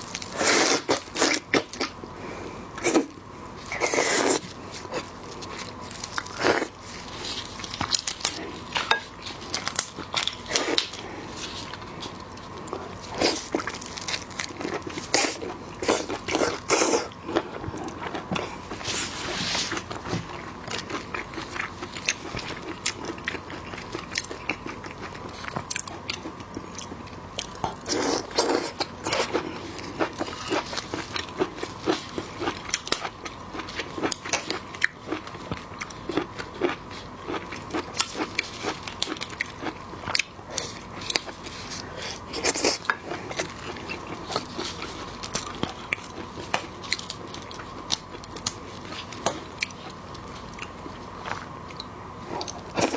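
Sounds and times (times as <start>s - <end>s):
crunching and wet chewing: 0.0s - 52.9s.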